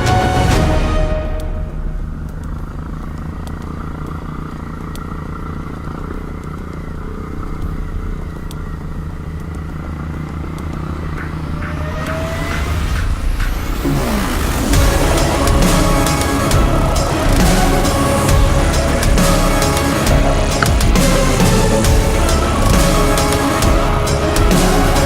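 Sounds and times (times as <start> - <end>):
motorbike engine running: 1.4 - 25.0.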